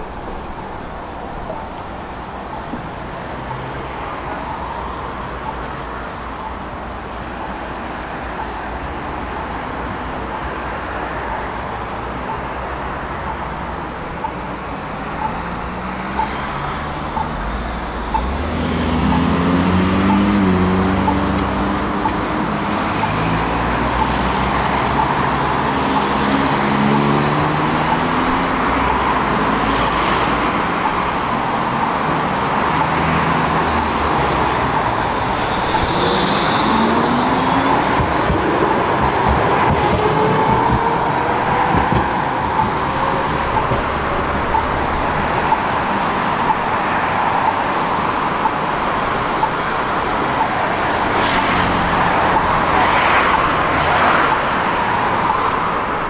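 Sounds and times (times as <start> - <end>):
tram running noise: 0.0 - 56.0.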